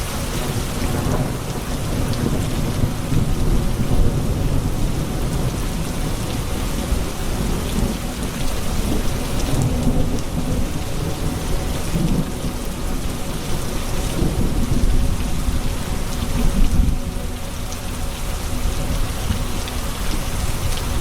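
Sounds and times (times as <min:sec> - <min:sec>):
low rumble of thunder: 0:00.0 - 0:21.0
rain on hard surfaces: 0:00.0 - 0:21.0.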